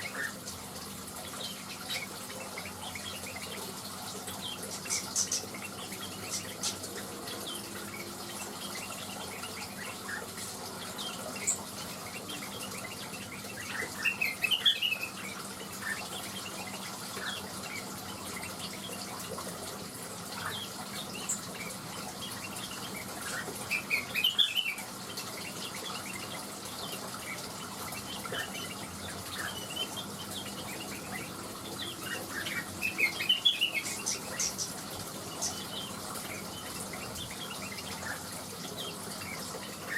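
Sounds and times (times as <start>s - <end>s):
bird singing chirpy phrases: 4.4s - 19.0s, 20.4s - 39.9s.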